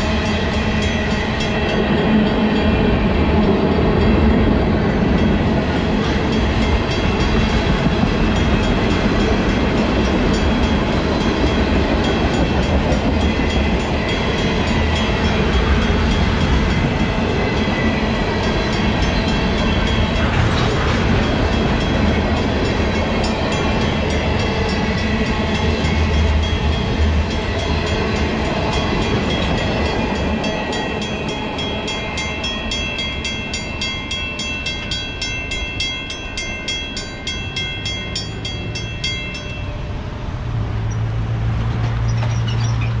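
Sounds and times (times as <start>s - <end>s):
crossing bell ringing: 0.0s - 43.0s
freight train rumbling: 0.0s - 43.0s.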